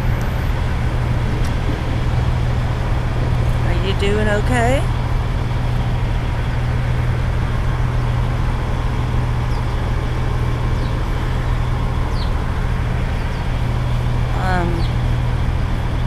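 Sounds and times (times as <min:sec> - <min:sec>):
highway traffic: 0:00.0 - 0:16.0
low hum: 0:00.0 - 0:16.0
truck engine: 0:00.0 - 0:16.0.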